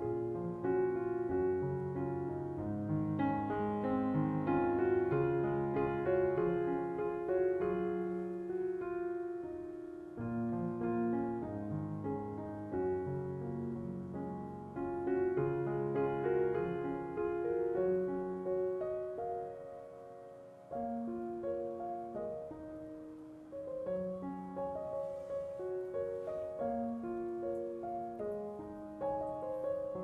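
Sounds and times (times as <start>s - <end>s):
soft piano music: 0.0s - 30.0s.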